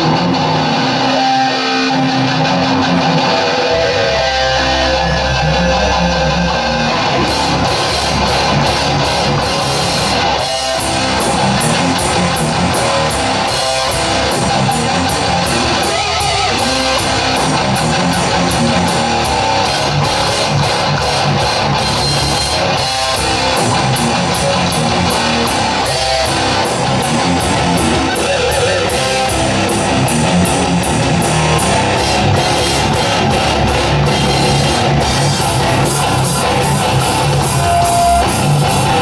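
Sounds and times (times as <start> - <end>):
electric guitar riff: 0.0 - 39.0
rock band playing live: 0.0 - 39.0.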